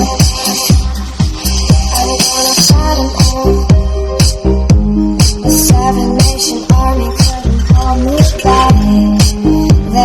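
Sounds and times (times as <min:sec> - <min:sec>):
loud electronic dance music: 0:00.0 - 0:10.0.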